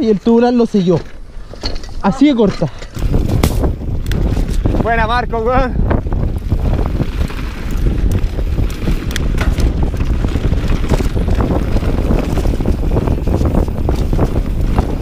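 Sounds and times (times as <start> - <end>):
bike clattering over bumps: 0.0 - 15.0
tyres rolling on dirt: 0.0 - 15.0
wind rush on microphone: 1.2 - 15.0.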